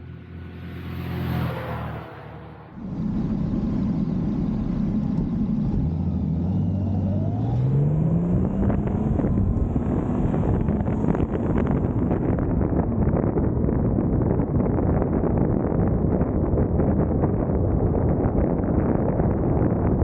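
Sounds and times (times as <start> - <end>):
motorcycle engine accelerating: 0.0 - 20.0
wind noise buffeting: 2.8 - 20.0.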